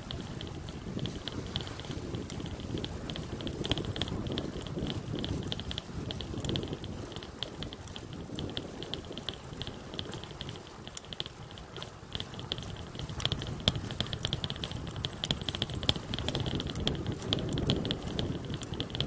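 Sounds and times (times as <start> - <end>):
bicycle freewheel ticking: 0.0 - 19.0
tyres rolling on concrete: 0.0 - 19.0.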